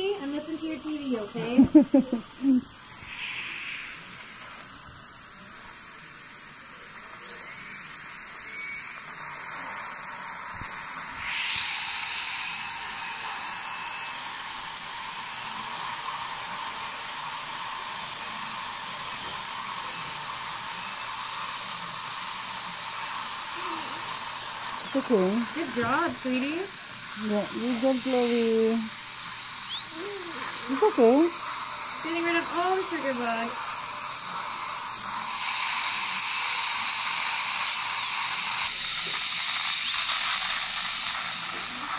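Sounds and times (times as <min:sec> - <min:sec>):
dental drill whining: 0:00.0 - 0:41.9
dental suction hissing: 0:00.0 - 0:41.9.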